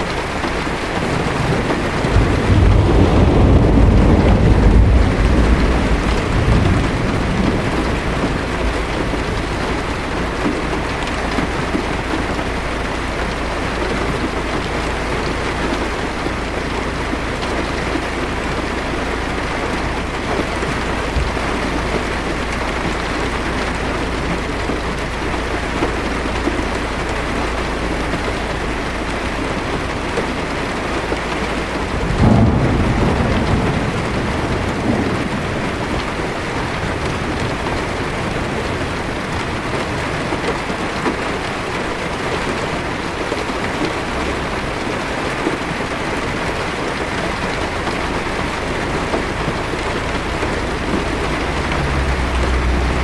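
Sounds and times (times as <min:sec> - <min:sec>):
heavy rain on car roof: 0:00.0 - 0:53.0
thunder rumbling: 0:00.0 - 0:53.0.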